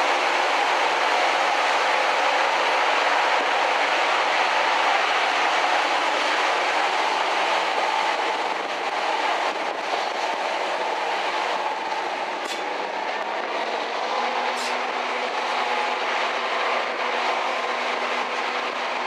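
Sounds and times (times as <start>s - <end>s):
locomotive engines roaring: 0.0s - 19.0s
wind: 0.0s - 19.0s.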